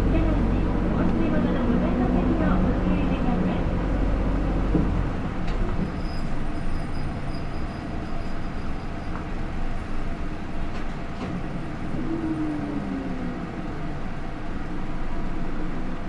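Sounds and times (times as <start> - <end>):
bus engine and road drone: 0.0 - 16.0.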